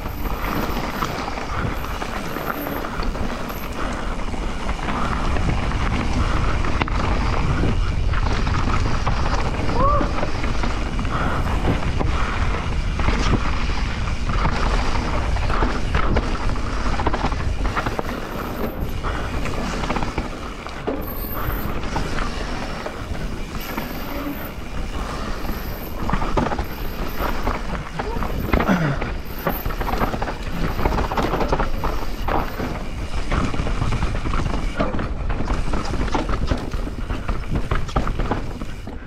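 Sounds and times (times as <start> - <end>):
bike frame rattling and creaking: 0.0 - 39.0
bike tyres crunching over dirt: 0.0 - 39.0.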